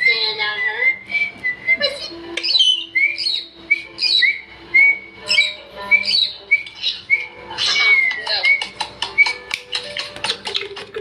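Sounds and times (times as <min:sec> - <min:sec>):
parrot whistling chirps: 0:00.0 - 0:10.2
background music: 0:00.0 - 0:11.0.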